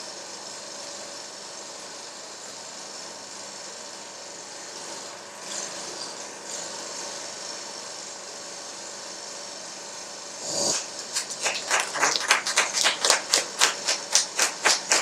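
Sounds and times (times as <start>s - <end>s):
rhythmic hissing puffs: 0.0s - 15.0s
steady hiss: 0.0s - 15.0s.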